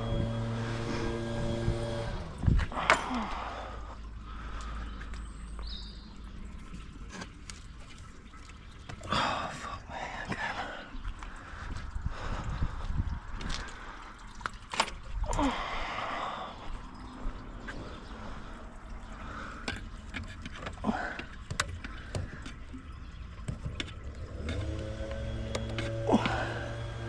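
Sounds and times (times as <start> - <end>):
steady low multi-tone hum: 0.0 - 27.0.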